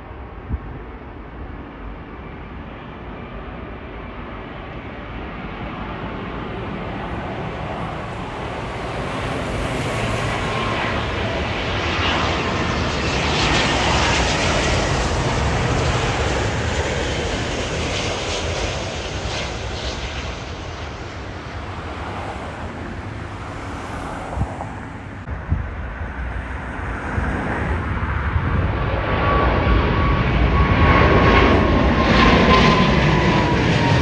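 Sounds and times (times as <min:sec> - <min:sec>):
jet airliner engines passing: 0:00.0 - 0:34.0.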